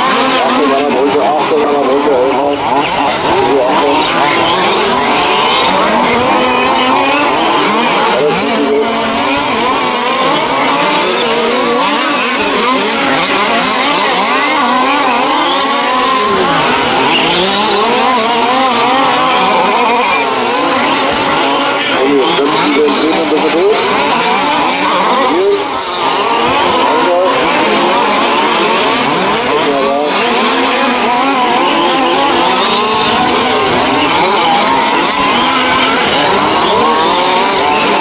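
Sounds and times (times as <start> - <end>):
rc truck engines revving: 0.0 - 38.0.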